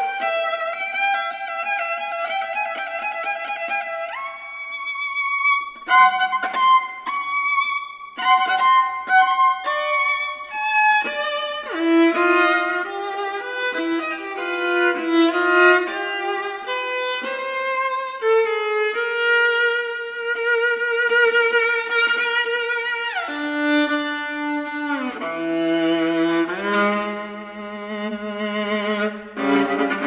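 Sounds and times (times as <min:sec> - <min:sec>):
solo viola bowed: 0:00.0 - 0:30.0.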